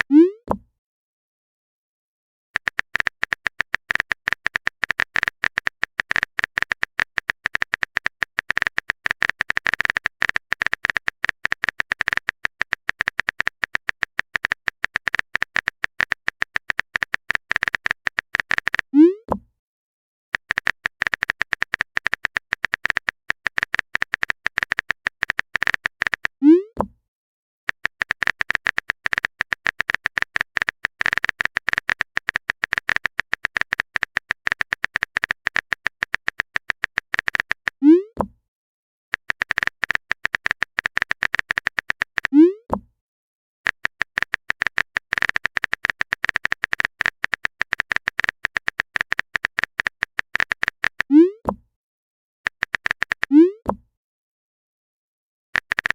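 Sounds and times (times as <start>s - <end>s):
rapid keyboard typing clicks: 2.6s - 18.9s, 20.4s - 26.4s, 27.7s - 37.8s, 39.2s - 42.4s, 43.7s - 51.5s, 52.5s - 53.8s, 55.6s - 55.9s.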